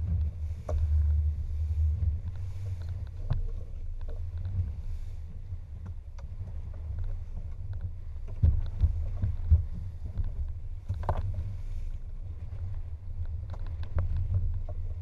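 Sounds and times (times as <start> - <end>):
boat motor rumble: 0.0 - 15.0
hull thumping on waves: 0.0 - 15.0
wind on microphone: 0.0 - 15.0.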